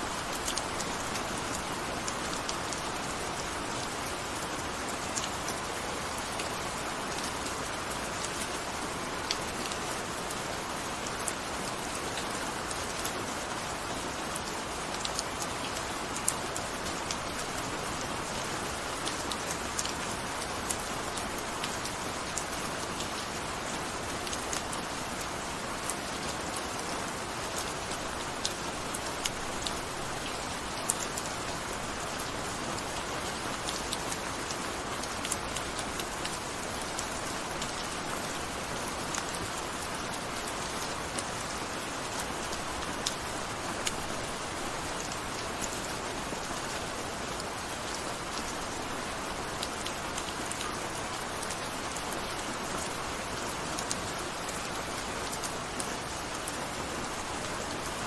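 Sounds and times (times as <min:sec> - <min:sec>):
raindrops ticking on a surface: 0:00.0 - 0:58.0.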